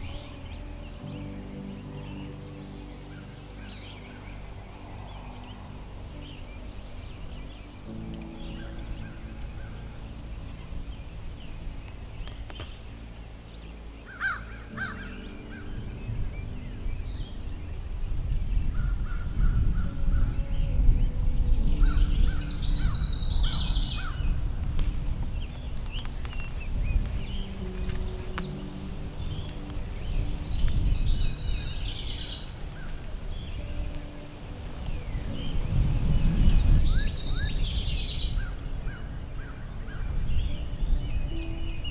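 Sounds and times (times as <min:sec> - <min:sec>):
low rumble: 0:00.0 - 0:41.9
wild birds singing: 0:00.0 - 0:41.9.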